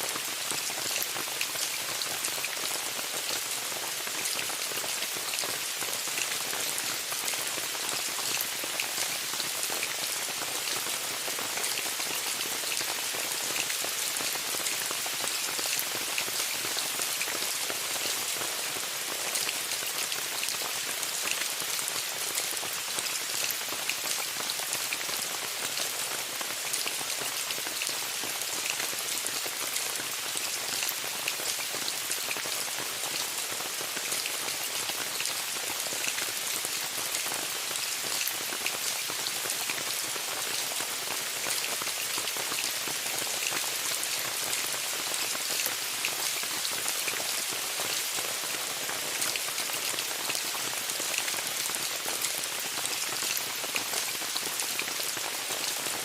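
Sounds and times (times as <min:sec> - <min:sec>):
rain pattering on a tent: 0:00.0 - 0:56.0.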